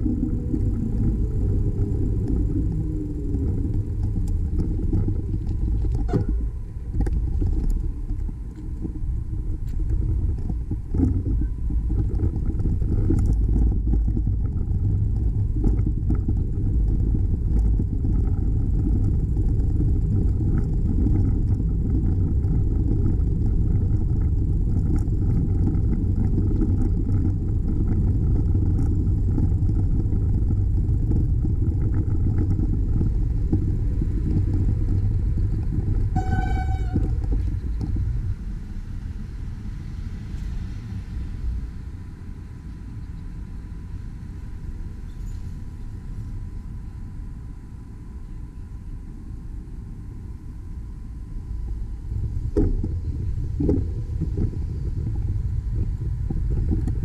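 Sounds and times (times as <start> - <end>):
wind and road noise rumble: 0.0 - 57.0.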